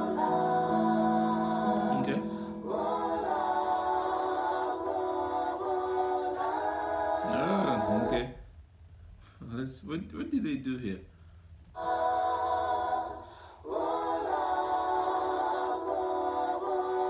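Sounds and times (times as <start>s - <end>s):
a cappella group singing: 0.0s - 8.5s, 11.7s - 17.0s.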